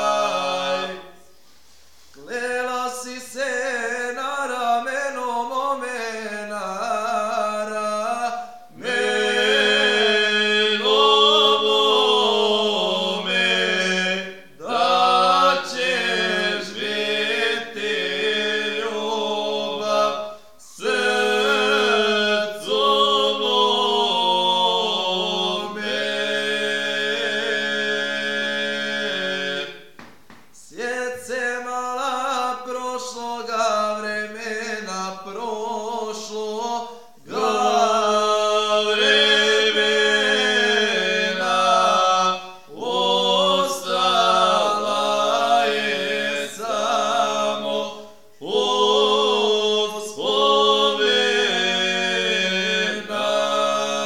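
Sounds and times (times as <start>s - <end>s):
men singing unaccompanied: 0.0s - 1.1s, 2.2s - 29.9s, 30.6s - 54.0s.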